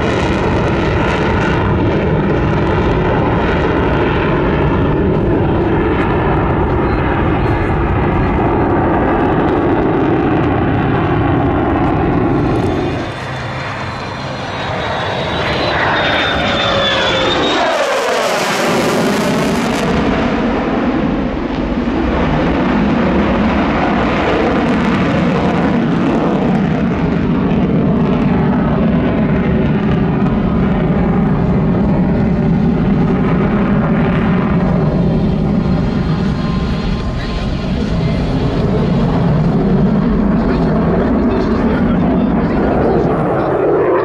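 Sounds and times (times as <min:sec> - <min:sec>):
jet engine roar: 0:00.0 - 0:44.0
jet whine sweeping down: 0:00.0 - 0:44.0.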